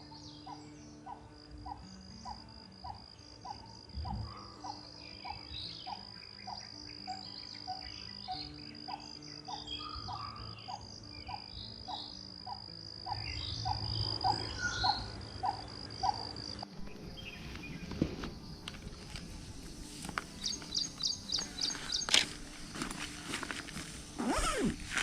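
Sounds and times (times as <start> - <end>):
birds chirping: 0.0 - 25.0
insects trilling: 0.0 - 25.0.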